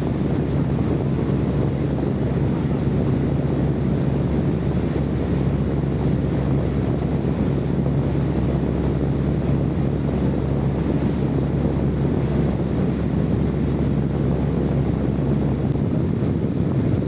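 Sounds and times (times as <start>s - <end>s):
low rumble: 0.0s - 17.0s
steady low hum: 0.0s - 17.0s.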